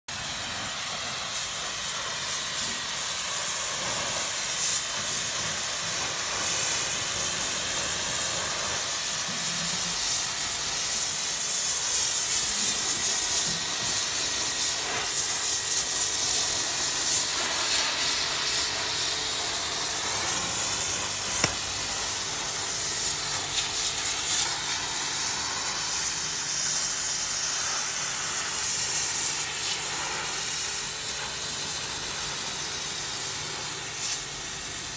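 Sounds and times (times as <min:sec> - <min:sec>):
pressure washer water jet hissing: 0:00.1 - 0:34.9.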